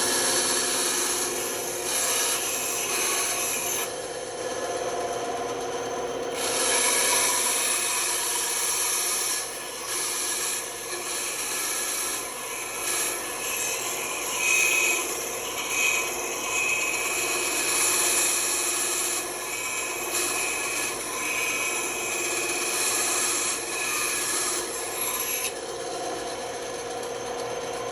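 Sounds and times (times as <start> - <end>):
band saw cutting wood: 0.0 - 27.9.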